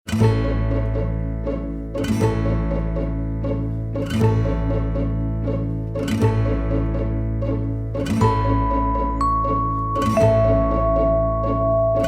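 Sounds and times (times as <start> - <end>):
bluegrass string music: 0.1 - 12.0.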